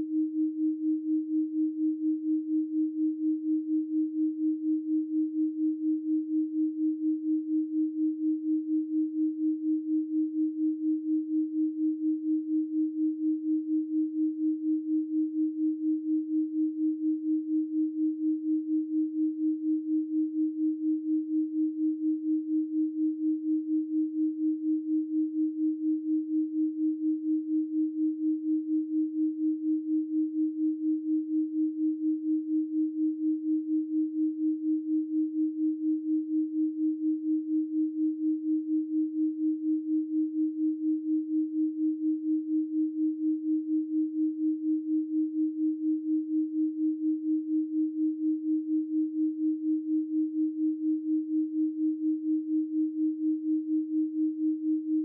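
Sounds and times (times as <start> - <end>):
pulsing pure sine tone: 0.0 - 55.0.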